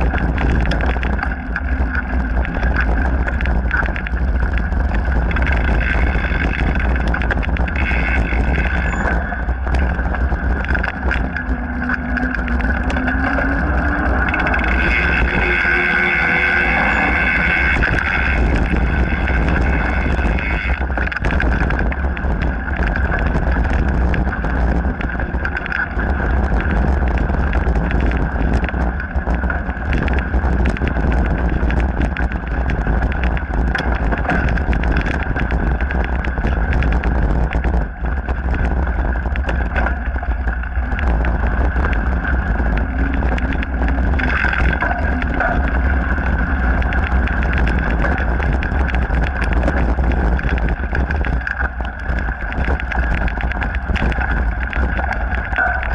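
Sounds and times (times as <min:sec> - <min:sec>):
bike rattling over gravel trail: 0:00.0 - 0:55.9
low wind rumble on microphone: 0:00.0 - 0:55.9.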